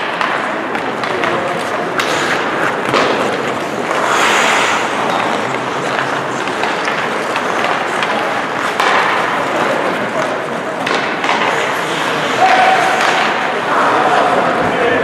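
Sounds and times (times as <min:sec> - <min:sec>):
skate blades scraping ice: 0:00.0 - 0:13.7
hockey sticks and puck clicks: 0:00.0 - 0:14.7.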